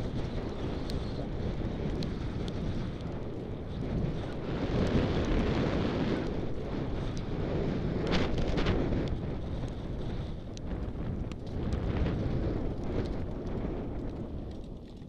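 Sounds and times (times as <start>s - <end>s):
tyres rumbling on dirt trail: 0.0s - 15.0s
wind buffeting microphone: 0.0s - 15.0s.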